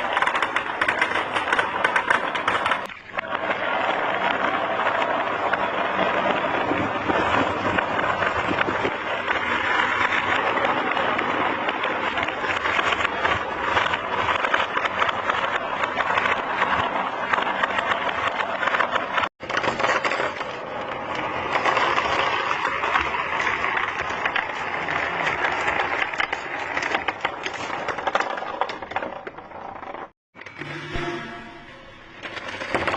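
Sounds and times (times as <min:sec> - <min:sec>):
marbles rattling down a marble run: 0:00.0 - 0:30.1, 0:32.2 - 0:32.9.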